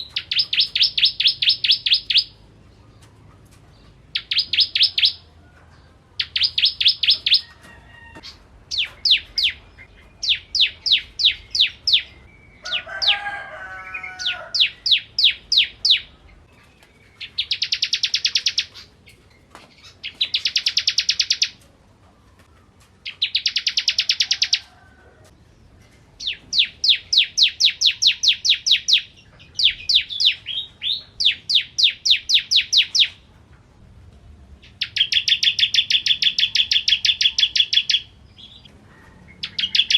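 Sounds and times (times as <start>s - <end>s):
bird trilling song: 0.0s - 24.7s, 25.8s - 33.3s, 34.6s - 39.9s.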